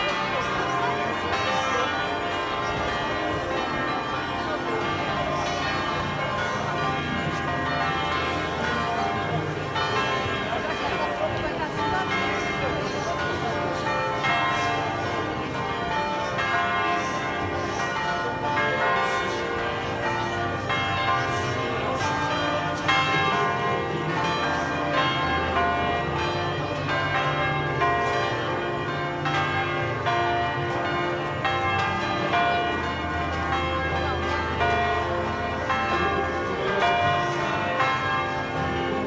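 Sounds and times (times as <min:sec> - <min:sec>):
church bells pealing: 0:00.0 - 0:39.0.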